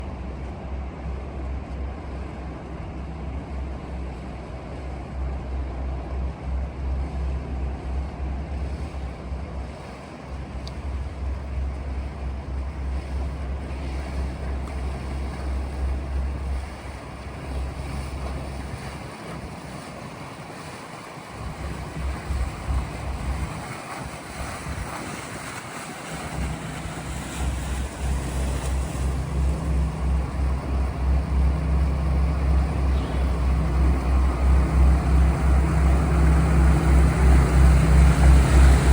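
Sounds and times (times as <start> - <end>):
boat motor: 0.0 - 38.9
rushing water: 0.0 - 38.9
wind buffeting microphone: 0.0 - 38.9.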